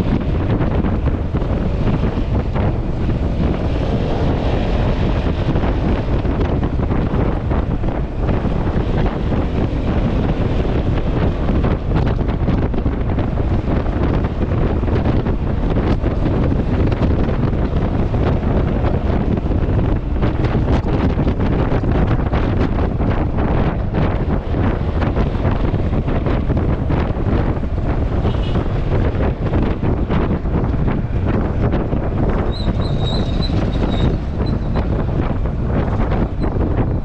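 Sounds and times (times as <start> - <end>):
road noise: 0.0 - 37.0
wind buffeting microphone: 0.0 - 37.0.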